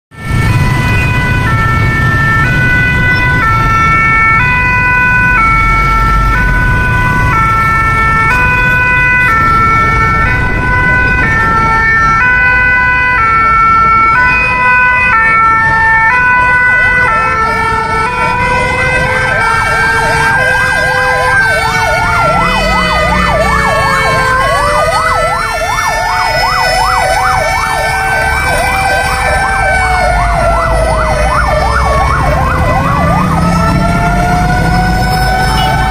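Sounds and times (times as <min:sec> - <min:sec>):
two-tone hi-lo siren: 0:00.1 - 0:35.9
wailing sirens: 0:00.1 - 0:35.9
yelping siren warble: 0:00.4 - 0:35.9.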